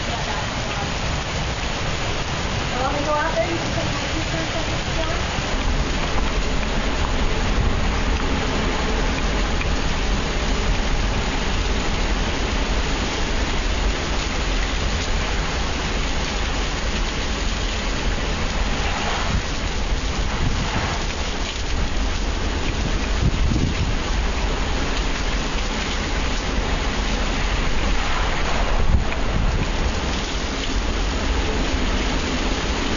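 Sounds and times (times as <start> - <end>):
heavy rain hissing: 0.0 - 32.9
strong wind rumbling on microphone: 0.0 - 32.9.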